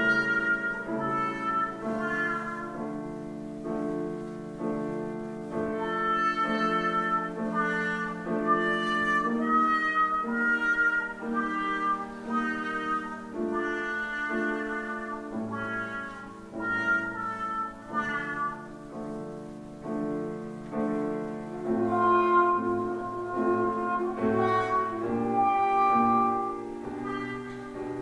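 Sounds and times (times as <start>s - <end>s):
trumpet and trombone duet: 0.0s - 3.9s, 5.5s - 19.3s, 20.8s - 28.0s
piano accompaniment: 0.0s - 28.0s.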